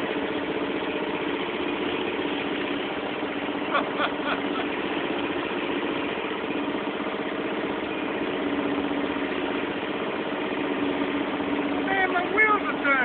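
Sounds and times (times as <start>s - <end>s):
riding mower engine idling: 0.0s - 13.0s.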